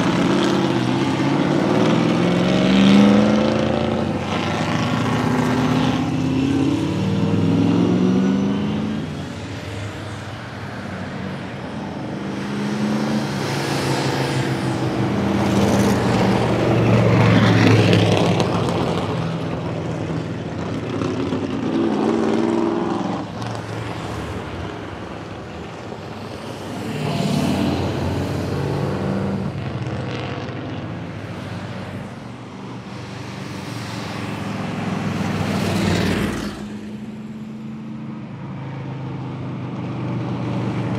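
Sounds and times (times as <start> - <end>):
race car engines accelerating: 0.0 - 40.9.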